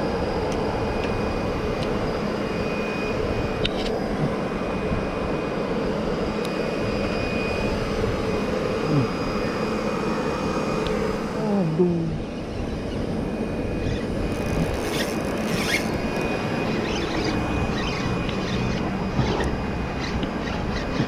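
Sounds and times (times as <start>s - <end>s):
motor-like drone with high whine: 0.0s - 21.0s.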